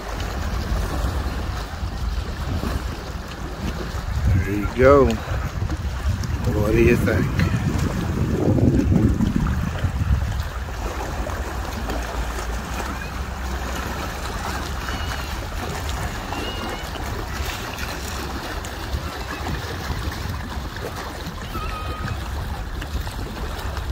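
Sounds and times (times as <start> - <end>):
small waves washing on rocks: 0.0 - 23.9
wind rumble on microphone: 0.0 - 23.9.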